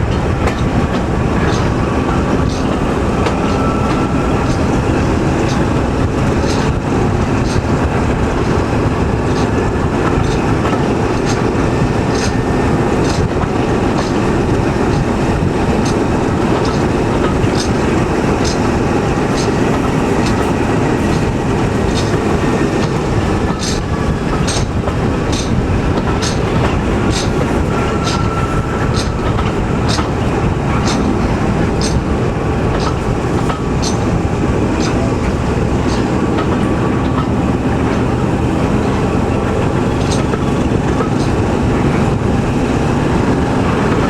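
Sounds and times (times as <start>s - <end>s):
train rumble: 0.0s - 44.0s
train wheels clicking over rail joints: 0.0s - 44.0s.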